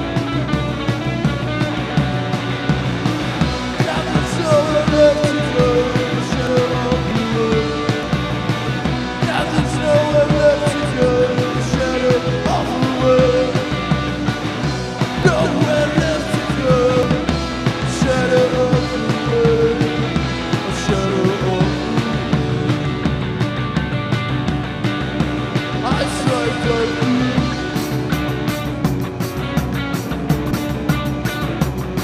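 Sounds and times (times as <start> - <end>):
rock band playing live: 0.0 - 32.0
steady drums: 0.0 - 32.0.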